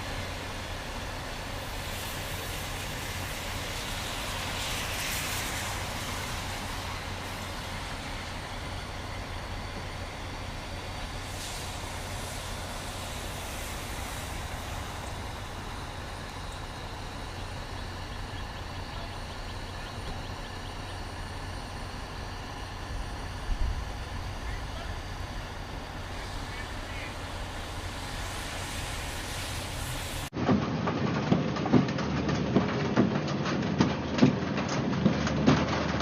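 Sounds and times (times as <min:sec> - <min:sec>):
constant hiss: 0:00.0 - 0:30.4
truck engine rumbling: 0:00.0 - 0:36.0.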